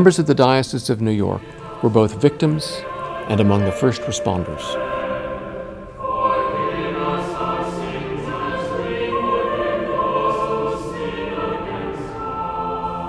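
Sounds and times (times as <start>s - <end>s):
choir singing slow held notes: 0.0s - 13.0s.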